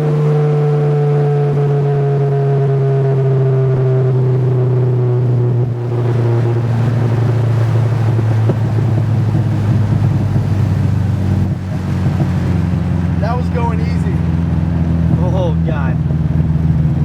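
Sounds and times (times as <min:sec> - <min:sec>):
car engine humming while driving: 0:00.0 - 0:17.0.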